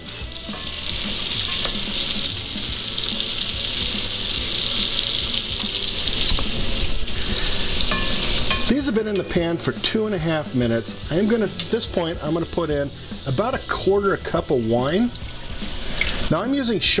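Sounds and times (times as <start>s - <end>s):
mushrooms sizzling in a pan: 0.0s - 17.0s.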